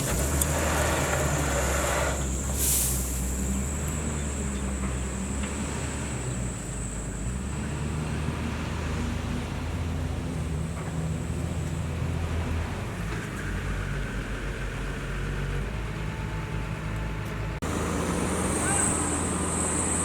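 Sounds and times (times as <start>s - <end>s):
diesel machinery engine running: 0.0s - 20.0s.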